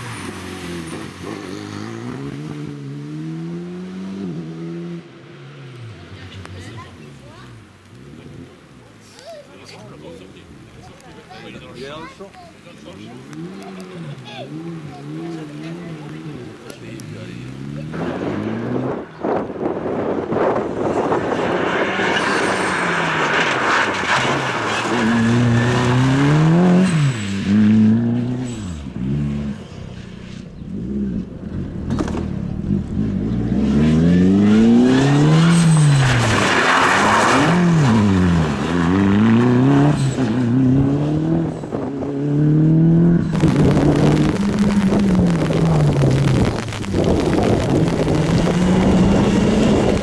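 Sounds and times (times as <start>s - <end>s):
rally car engines revving: 0.0s - 50.0s
tyre noise on road: 0.0s - 50.0s.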